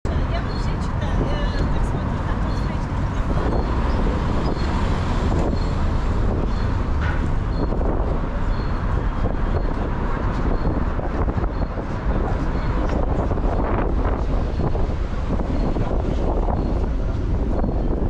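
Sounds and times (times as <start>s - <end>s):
car traffic: 0.0s - 18.0s
wind rumble on microphone: 0.1s - 18.0s.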